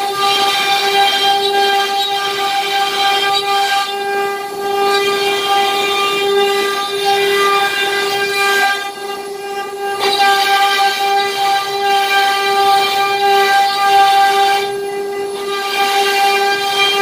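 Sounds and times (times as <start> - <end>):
router spindle whine: 0.0 - 17.0.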